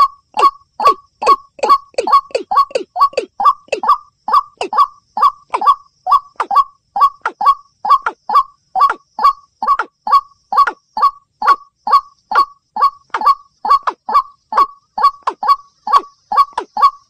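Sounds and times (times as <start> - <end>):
rail bird calls: 0.0 - 17.0.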